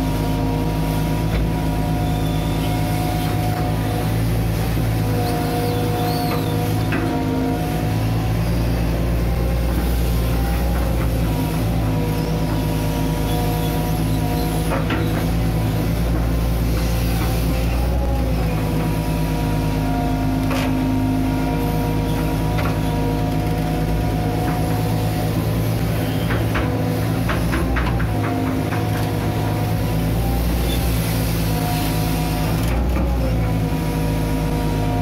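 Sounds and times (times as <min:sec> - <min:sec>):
diesel engine drone: 0:00.0 - 0:35.0
hydraulic whine: 0:00.0 - 0:35.0.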